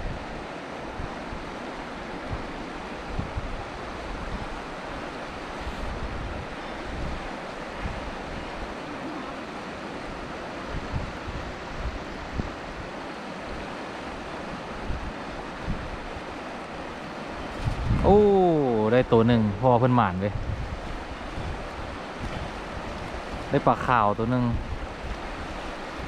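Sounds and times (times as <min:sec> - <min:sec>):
wind gusts buffeting microphone: 0:00.0 - 0:26.0
wind over open water: 0:00.0 - 0:26.0.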